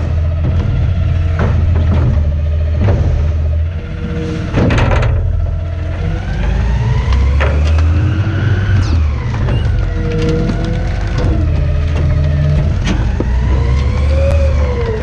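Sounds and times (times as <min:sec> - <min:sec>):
garbage truck engine running: 0:00.0 - 0:15.0
sharp knocks and clatters: 0:00.0 - 0:15.0.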